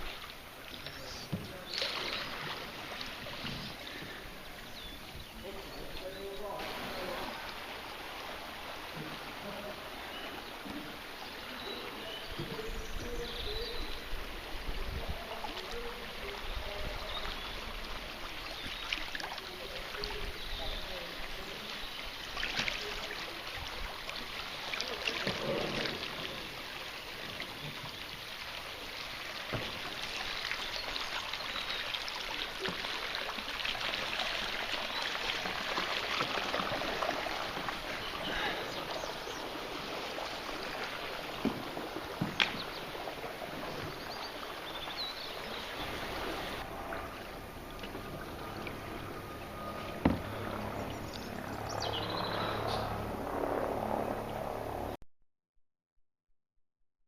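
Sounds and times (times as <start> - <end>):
floodwater running and splashing: 0.0 - 52.7.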